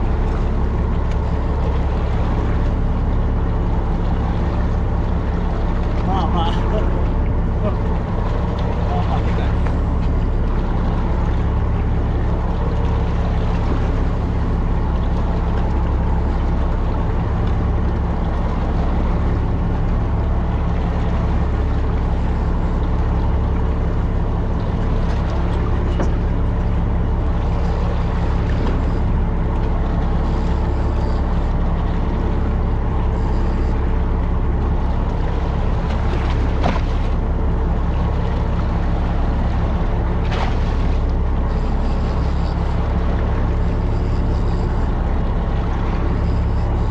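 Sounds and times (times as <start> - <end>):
boat engine humming: 0.0 - 46.9
water and hull noise: 0.0 - 46.9.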